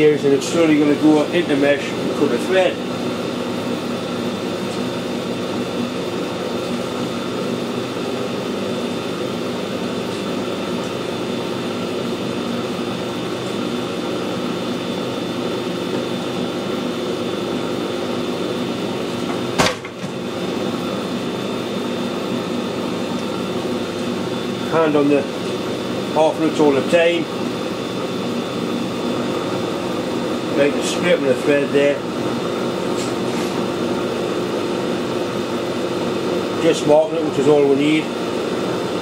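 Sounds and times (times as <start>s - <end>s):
metal lathe humming: 0.0s - 39.0s.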